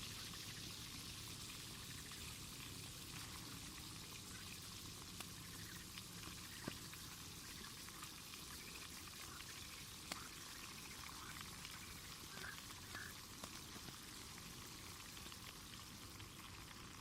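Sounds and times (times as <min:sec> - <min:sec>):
faint steady hiss: 0:00.0 - 0:17.0
sharp crackles and pops: 0:00.0 - 0:17.0.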